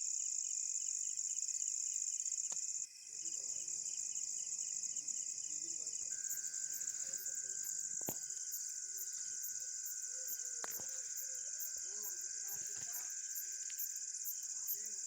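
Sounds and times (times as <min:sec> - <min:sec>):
lower insect trill: 0:00.0 - 0:15.0
night insects trilling: 0:00.0 - 0:15.0.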